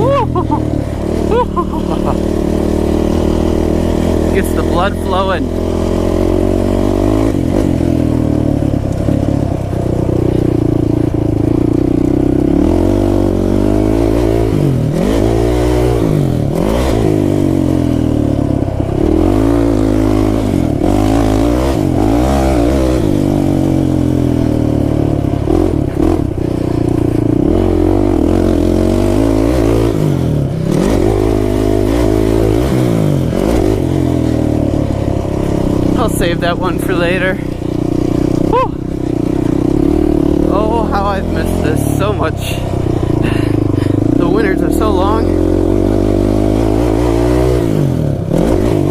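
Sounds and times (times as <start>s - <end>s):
quad engine revving: 0.0s - 48.9s.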